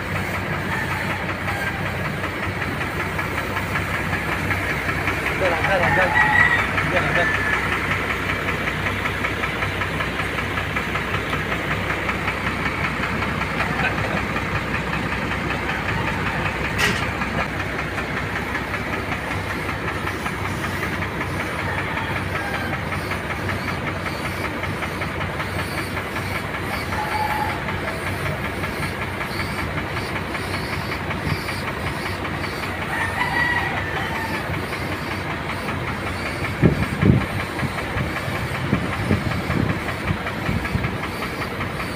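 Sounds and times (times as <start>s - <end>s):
air compressor chugging: 0.0s - 41.9s.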